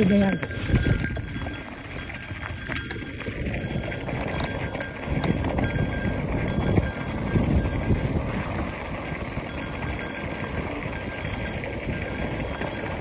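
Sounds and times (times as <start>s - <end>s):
bike rattling: 0.0s - 13.0s
tyres on dirt and stones: 0.0s - 13.0s.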